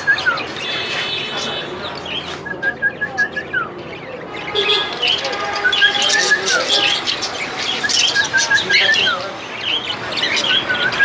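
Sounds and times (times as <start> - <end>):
cockatiels chirping: 0.0 - 11.0.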